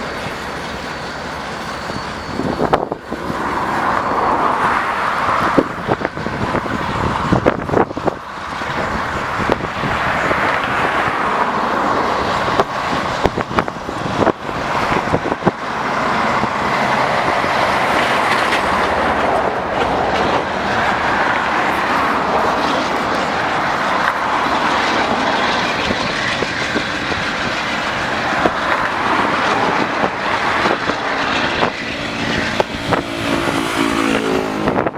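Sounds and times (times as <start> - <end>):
wheels clicking over rail joints: 0.0 - 34.8
train wheels rumbling on rail: 0.0 - 34.9.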